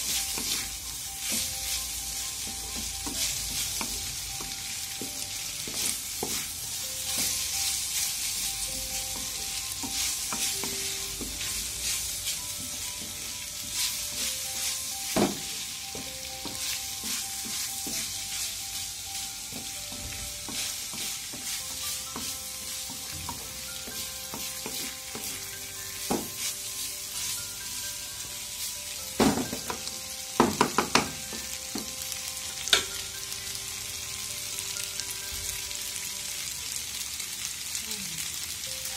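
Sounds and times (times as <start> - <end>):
noodles sizzling in a pan: 0.0 - 38.9.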